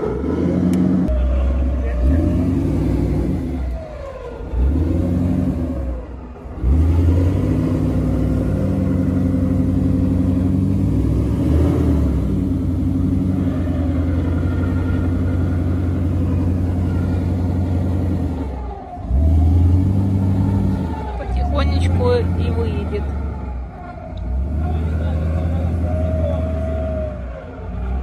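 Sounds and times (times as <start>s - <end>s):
car engine revving under load: 0.0s - 28.0s.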